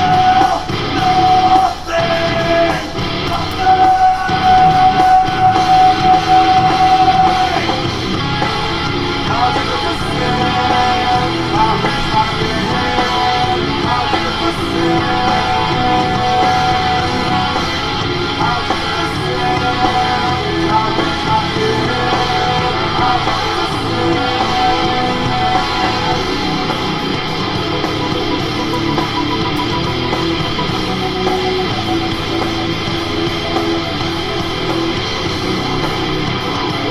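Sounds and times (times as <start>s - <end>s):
person singing: 0.0s - 36.9s
rock music with guitars: 0.0s - 36.9s.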